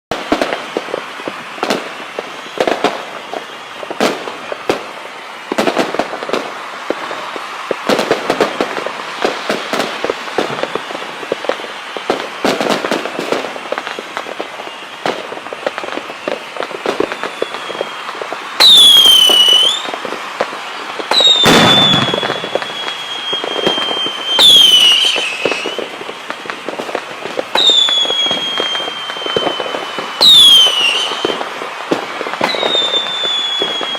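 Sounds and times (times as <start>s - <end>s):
firework whistles: 0.1s - 33.9s
fireworks cracking and banging: 0.1s - 33.9s.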